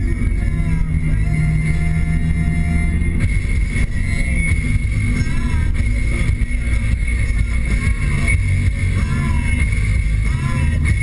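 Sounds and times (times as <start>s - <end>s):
car interior driving noise: 0.0s - 11.0s.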